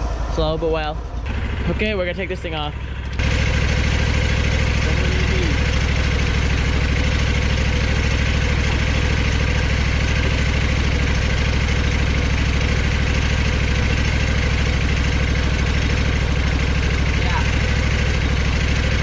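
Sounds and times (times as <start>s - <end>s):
sawmill engine idling: 0.0s - 19.0s.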